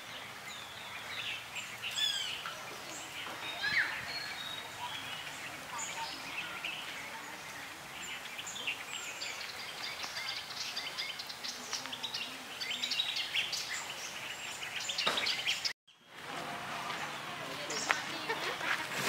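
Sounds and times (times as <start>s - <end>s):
birds chirping and whistling: 0.0s - 15.7s.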